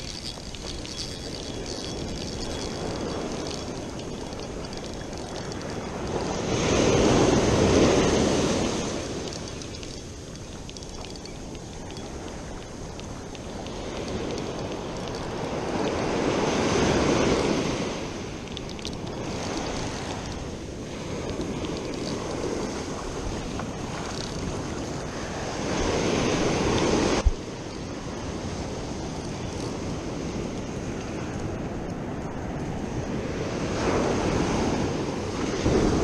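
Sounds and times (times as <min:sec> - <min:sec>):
surf washing onto beach: 0:00.0 - 0:36.0
waves breaking: 0:00.0 - 0:36.0
wind on microphone: 0:00.0 - 0:36.0.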